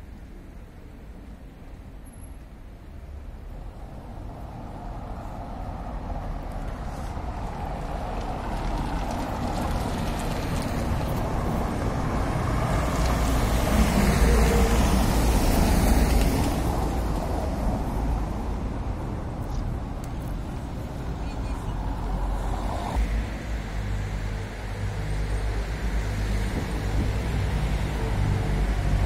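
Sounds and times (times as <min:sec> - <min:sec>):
car passing on wet cobblestones: 0:03.1 - 0:29.0.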